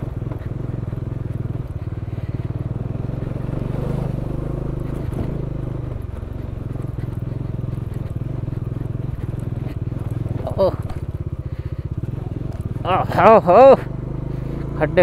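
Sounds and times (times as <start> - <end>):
motorcycle engine pulsing exhaust: 0.0 - 15.0.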